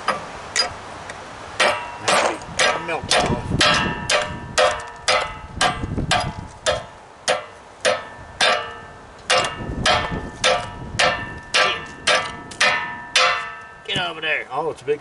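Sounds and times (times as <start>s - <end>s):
hammer striking metal: 1.6s - 14.0s.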